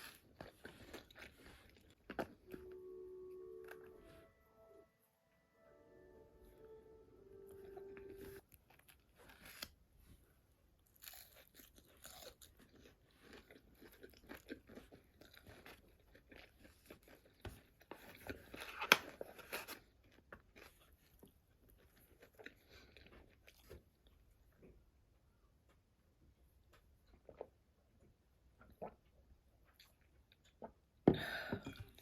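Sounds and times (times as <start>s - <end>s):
crunching and chewing crisp food: 0.0s - 2.7s, 7.6s - 31.0s.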